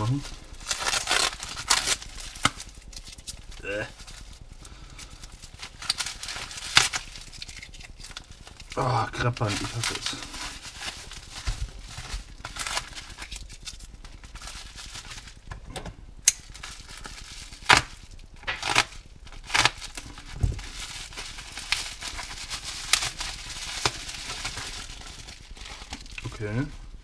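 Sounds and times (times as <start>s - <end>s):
bubble wrap popping: 0.0s - 15.6s, 16.2s - 27.0s
plastic crinkling: 0.0s - 15.6s, 16.2s - 27.0s
tape peeling and tearing: 0.1s - 4.2s, 5.6s - 15.3s, 16.2s - 26.3s.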